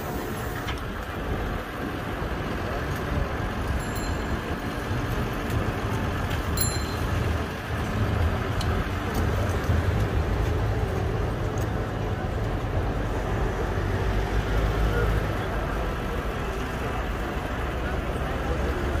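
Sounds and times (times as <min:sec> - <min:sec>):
city street noise: 0:00.0 - 0:19.0
truck engine rumbling: 0:00.0 - 0:19.0.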